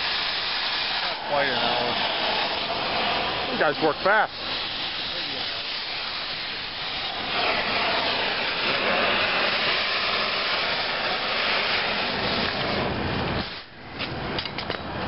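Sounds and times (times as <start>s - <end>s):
cutting torch hissing: 0.0s - 13.8s.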